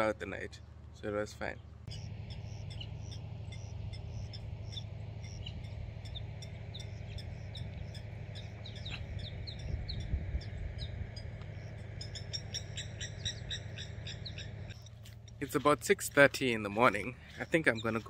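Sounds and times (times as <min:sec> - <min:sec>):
low steady rumble: 0:00.0 - 0:18.0
wild birds chirping: 0:00.0 - 0:18.0.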